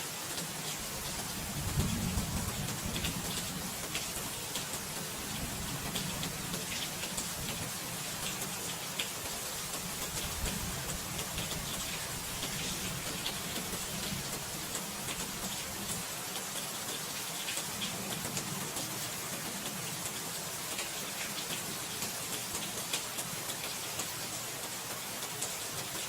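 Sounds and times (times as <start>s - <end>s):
steady rain with drop ticks: 0.0s - 26.0s.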